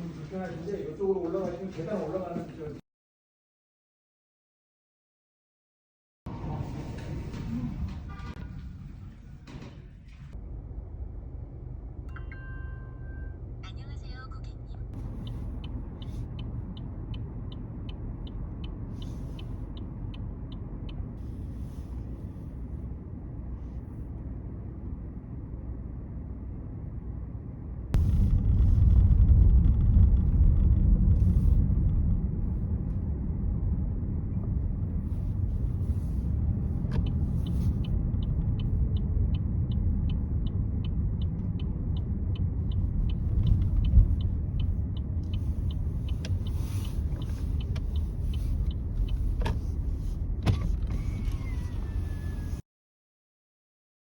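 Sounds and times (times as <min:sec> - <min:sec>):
car road and engine rumble: 0:06.3 - 0:52.6.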